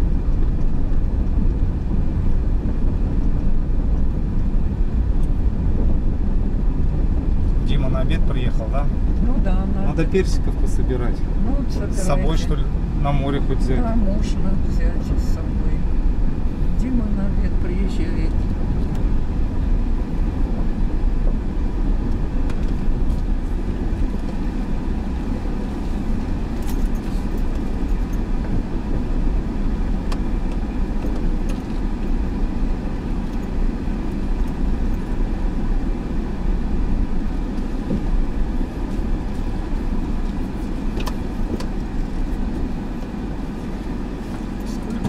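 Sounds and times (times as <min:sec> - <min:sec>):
car rumbling on gravel: 0:00.0 - 0:45.0.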